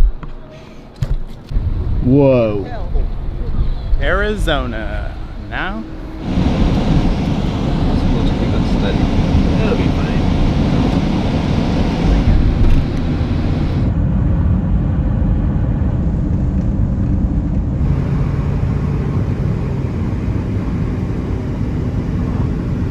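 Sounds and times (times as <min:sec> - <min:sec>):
loud low rumble: 0:01.5 - 0:22.9.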